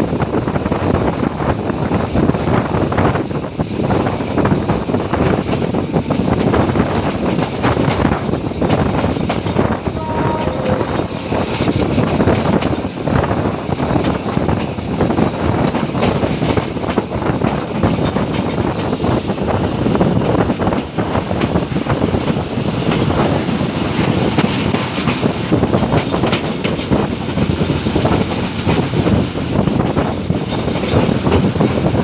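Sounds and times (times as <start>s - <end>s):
diesel train engine rumble: 0.0s - 32.0s
wind buffeting microphone: 0.0s - 32.0s
wheel clacks on rail: 3.9s - 19.4s, 20.0s - 32.0s.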